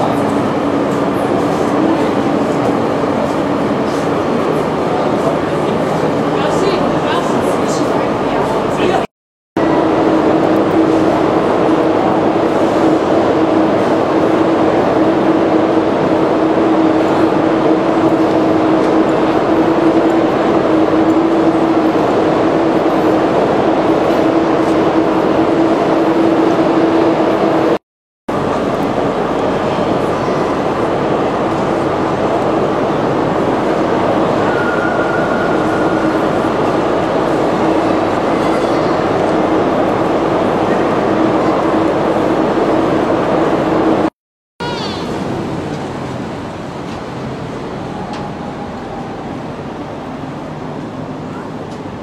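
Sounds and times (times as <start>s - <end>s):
station concourse din: 0.0s - 52.0s.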